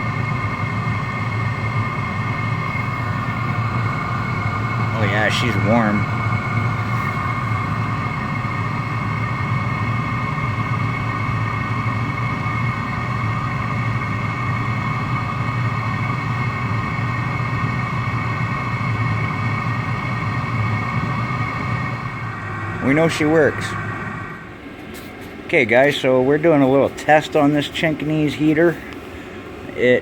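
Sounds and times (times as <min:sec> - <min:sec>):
air heater droning: 0:00.0 - 0:30.0.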